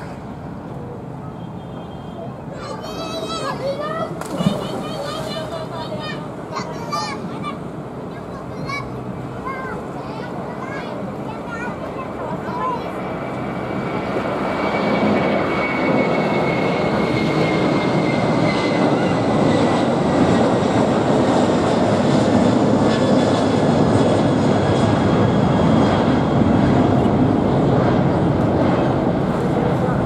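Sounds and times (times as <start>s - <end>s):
jet airliner climbing: 2.6s - 30.0s.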